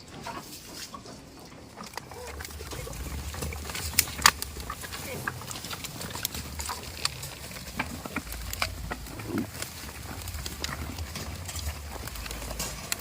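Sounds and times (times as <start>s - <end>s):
goat hooves clicking and knocking: 0.0s - 13.0s
steady low rumble: 2.4s - 13.0s.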